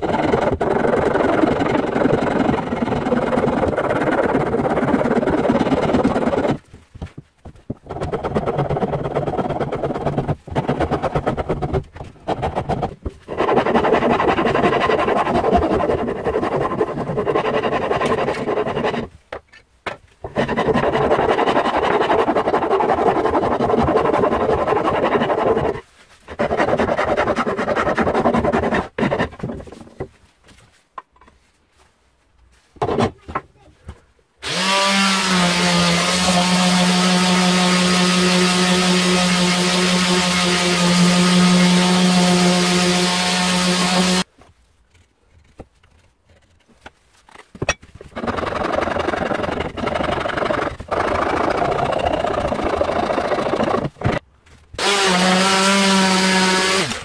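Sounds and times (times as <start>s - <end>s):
hand file rasping on wood: 0.0s - 6.6s, 7.6s - 19.1s, 20.2s - 30.1s, 34.4s - 44.3s, 48.1s - 54.2s, 54.8s - 57.0s.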